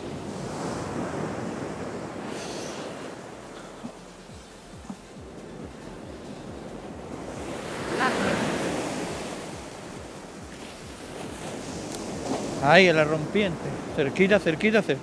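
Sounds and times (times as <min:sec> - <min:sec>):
surf breaking on beach: 0:00.0 - 0:04.2, 0:04.8 - 0:15.0
wind rumbling on microphone: 0:00.0 - 0:15.0.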